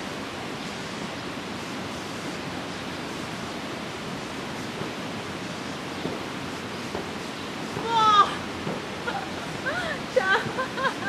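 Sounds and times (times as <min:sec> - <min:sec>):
steady outdoor background hiss: 0:00.0 - 0:11.0.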